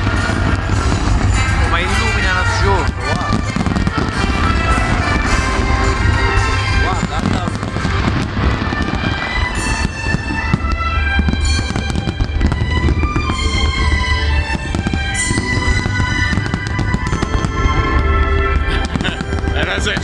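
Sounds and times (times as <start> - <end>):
deep rumble: 0.0 - 20.0
fireworks bangs and crackling: 0.0 - 20.0
music playing: 0.0 - 20.0.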